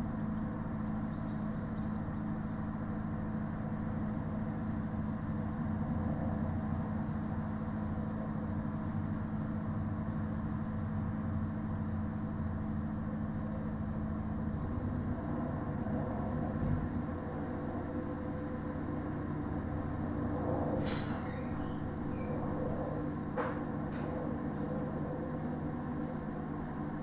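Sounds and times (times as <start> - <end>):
diesel engine and refrigeration hum: 0.0 - 27.0.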